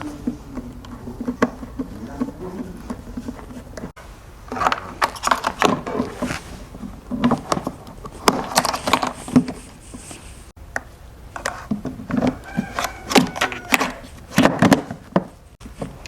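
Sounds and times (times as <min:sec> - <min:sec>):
parts clicking and knocking: 0:00.0 - 0:16.0.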